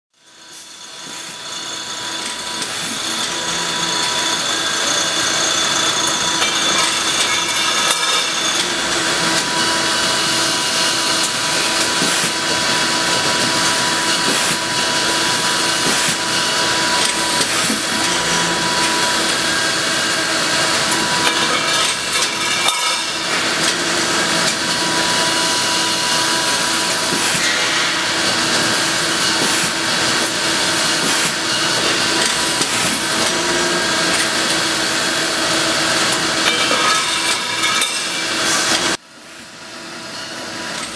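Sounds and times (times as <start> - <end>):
lathe machine whine: 0.2 - 40.9.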